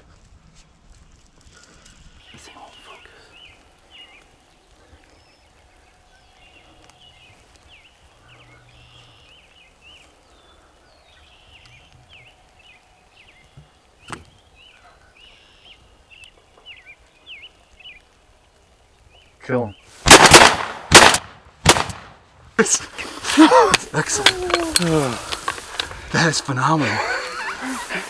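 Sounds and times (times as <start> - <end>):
small birds chirping: 1.1 - 20.4, 22.4 - 28.0.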